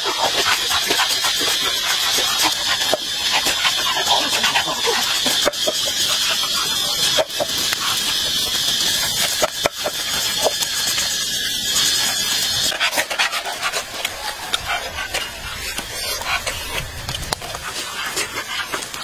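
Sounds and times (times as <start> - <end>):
wood fire hissing and crackling: 0.0 - 19.0.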